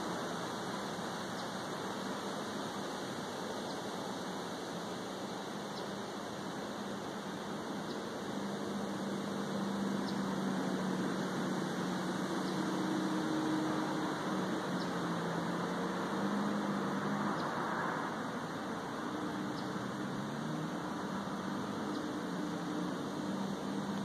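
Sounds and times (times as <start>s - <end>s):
distant aircraft droning: 0.0s - 24.0s.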